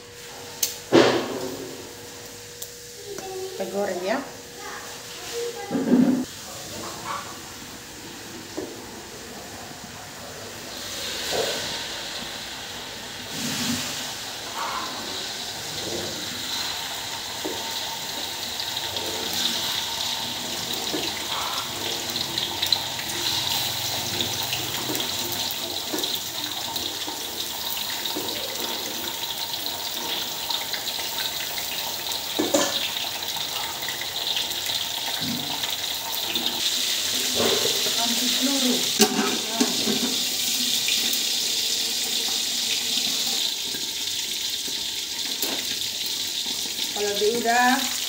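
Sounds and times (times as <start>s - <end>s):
fish sizzling in hot oil: 6.2s - 48.0s.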